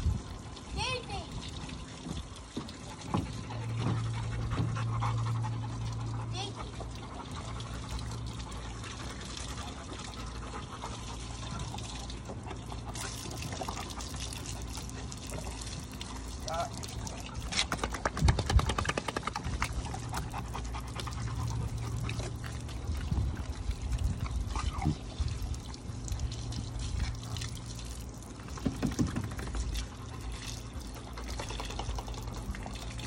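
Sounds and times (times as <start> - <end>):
hose water splashing: 0.0 - 33.0.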